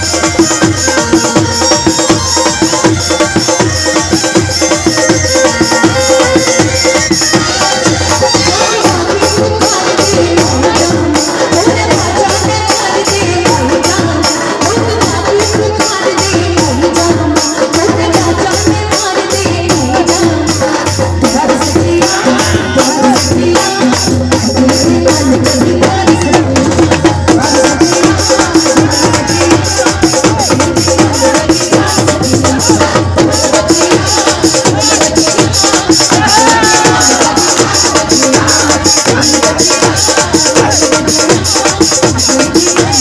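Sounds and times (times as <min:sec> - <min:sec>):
drums and hand percussion: 0:00.0 - 0:43.0
woman singing into a microphone: 0:00.0 - 0:43.0.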